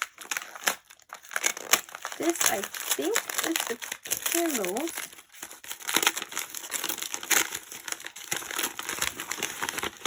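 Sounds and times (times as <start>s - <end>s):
wrapping crinkling: 0.0s - 10.0s.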